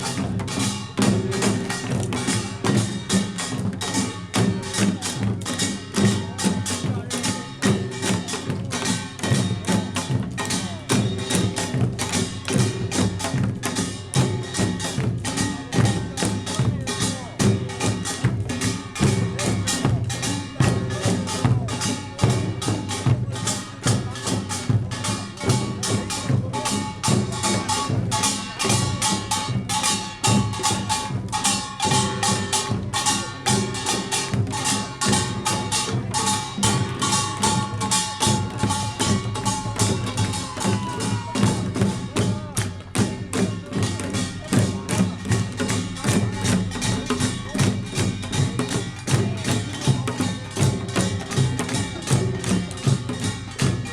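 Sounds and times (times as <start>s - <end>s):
drums: 0.0s - 53.9s
small gongs clanging: 0.1s - 53.9s.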